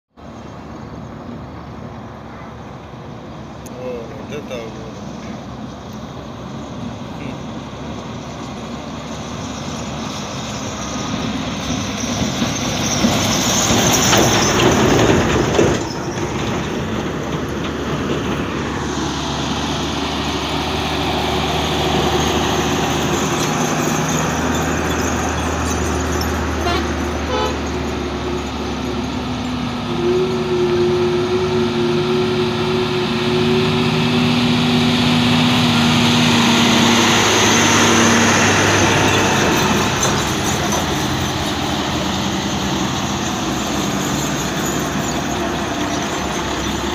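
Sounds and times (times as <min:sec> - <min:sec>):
diesel lorries driving past: 0:00.2 - 0:46.9
engine drone: 0:00.2 - 0:46.9.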